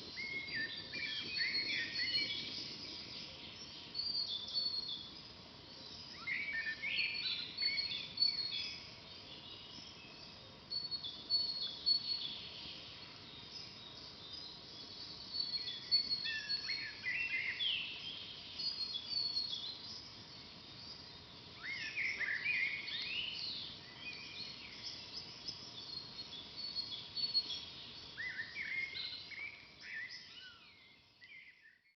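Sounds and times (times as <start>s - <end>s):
faint steady hiss: 0.0s - 31.9s
songbirds chirping and singing: 0.0s - 31.9s.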